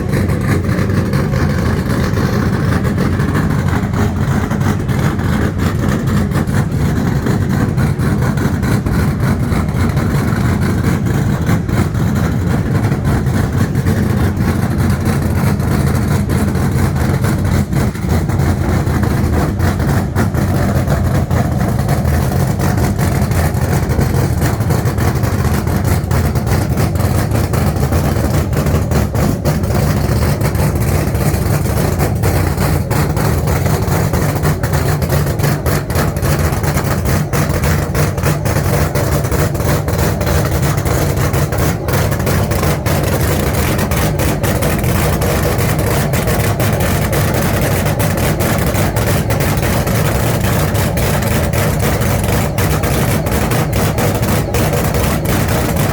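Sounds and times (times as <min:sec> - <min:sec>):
vehicle engine running loudly: 0:00.0 - 0:55.9.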